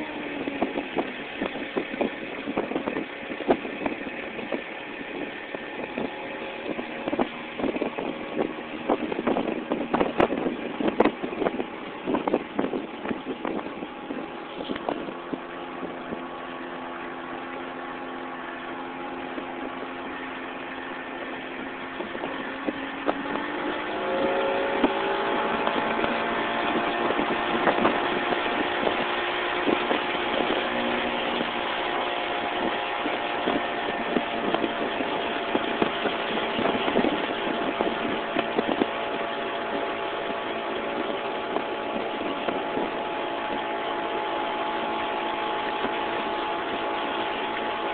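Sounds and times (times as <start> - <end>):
outboard motor running: 0.0 - 47.9
water and wind hiss: 0.0 - 47.9.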